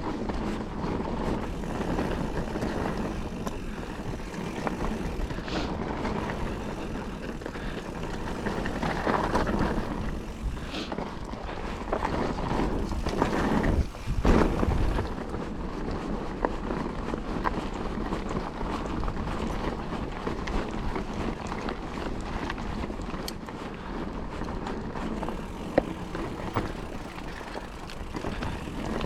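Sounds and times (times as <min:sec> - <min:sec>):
bike clicks and rattles: 0:00.0 - 0:29.0
bike tyres on dirt trail: 0:00.0 - 0:29.0.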